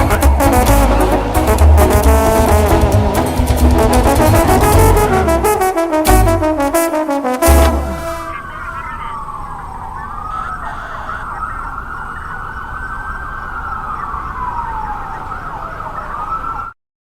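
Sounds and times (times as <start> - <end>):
emergency vehicle siren wailing: 0.0 - 16.8.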